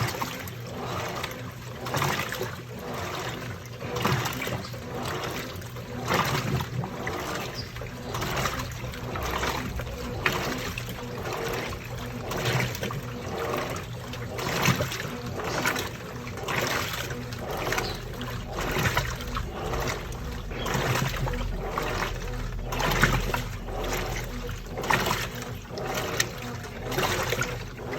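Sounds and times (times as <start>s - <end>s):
washing machine motor hum: 0.0s - 27.9s
water sloshing in washing machine: 0.0s - 27.9s.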